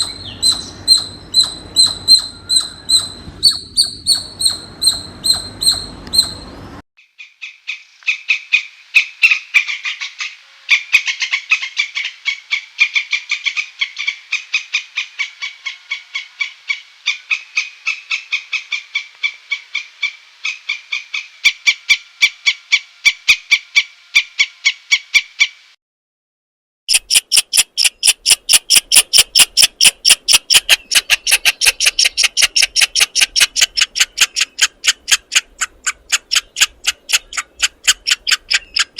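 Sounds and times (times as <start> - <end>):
squirrel alarm calls: 0.0 - 6.5, 7.2 - 25.5, 26.9 - 38.9.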